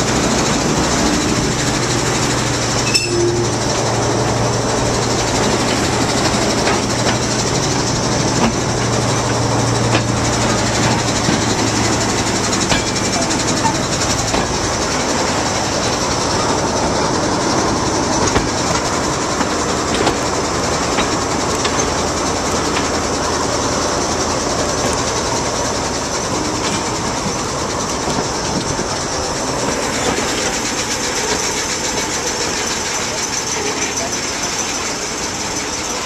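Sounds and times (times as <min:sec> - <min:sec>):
diesel locomotive running: 0:00.0 - 0:36.0
wheel clicks over rail joints: 0:00.1 - 0:36.0.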